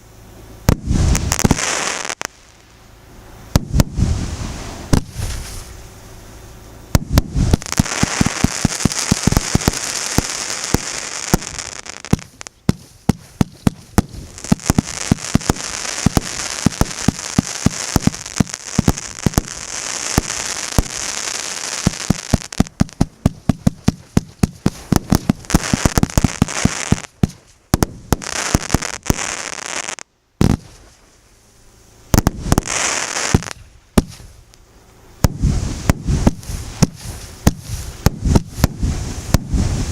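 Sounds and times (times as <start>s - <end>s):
fireworks launch shots and bursts: 0.0s - 31.2s, 32.0s - 39.9s
fireworks crackle: 0.6s - 31.4s, 32.0s - 39.9s.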